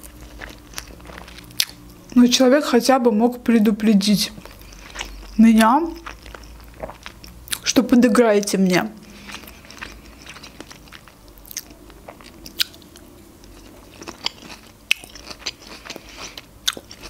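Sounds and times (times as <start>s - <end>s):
close chewing with crunches: 0.0s - 2.2s, 4.3s - 7.8s, 8.4s - 17.0s.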